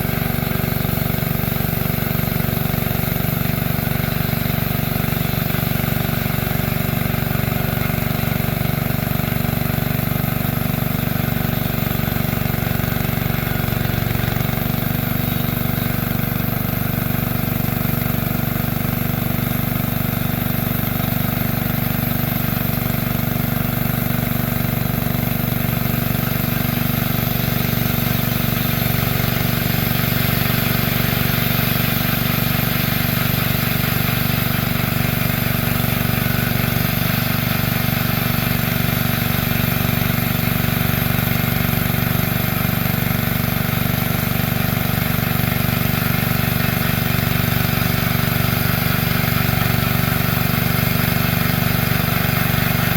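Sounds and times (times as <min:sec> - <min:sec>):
sawmill engine running steadily: 0:00.0 - 0:52.9.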